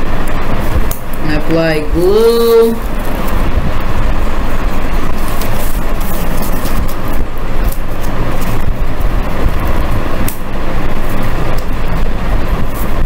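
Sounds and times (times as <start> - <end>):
loud rumbling background noise: 0.0 - 13.0.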